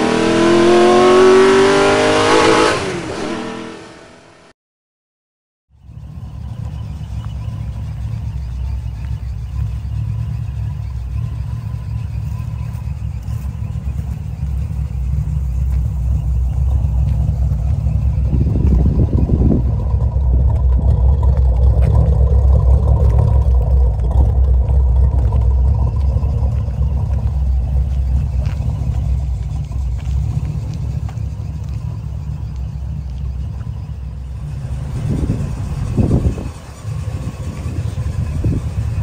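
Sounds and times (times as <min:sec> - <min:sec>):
car engine rumbling: 0:00.0 - 0:04.5, 0:05.7 - 0:39.0.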